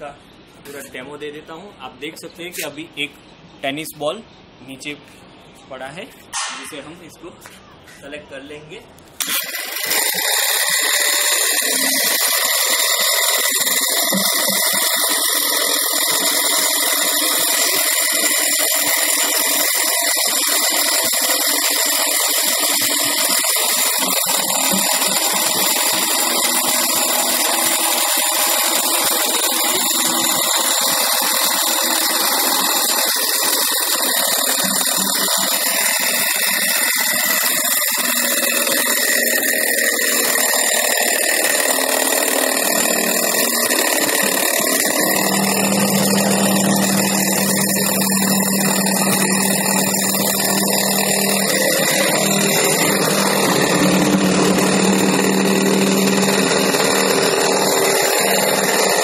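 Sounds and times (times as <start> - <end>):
electric motor whine: 9.2 - 59.0.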